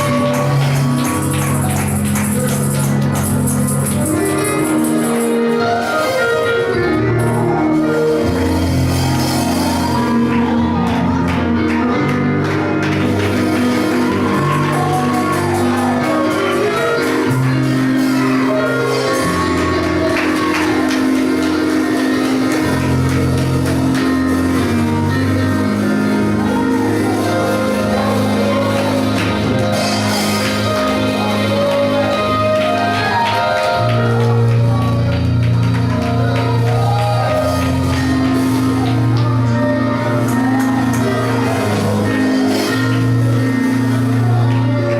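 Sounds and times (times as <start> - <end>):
gospel worship music: 0.0 - 44.9.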